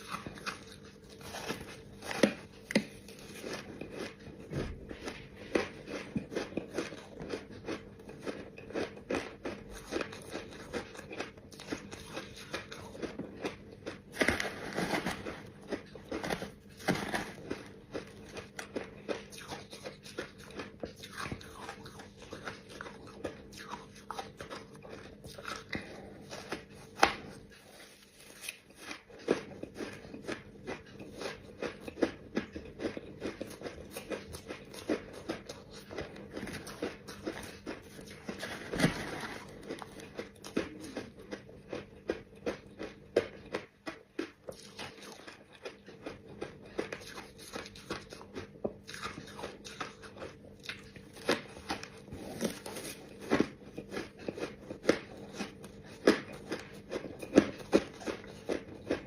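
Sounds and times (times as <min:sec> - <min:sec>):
ice crunching being chewed: 0:00.0 - 0:59.0.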